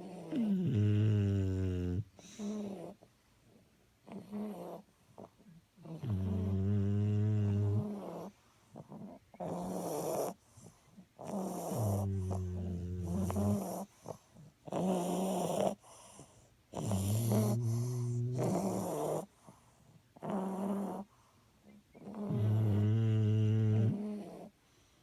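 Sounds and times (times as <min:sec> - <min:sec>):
dog snoring: 0:00.0 - 0:03.1, 0:04.0 - 0:19.6, 0:20.2 - 0:21.2, 0:21.9 - 0:24.6.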